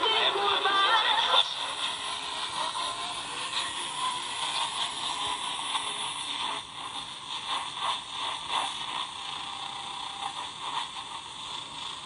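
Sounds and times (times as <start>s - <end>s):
fluttering pulse in radio noise: 0.0s - 12.0s
radio static hiss: 0.0s - 12.0s.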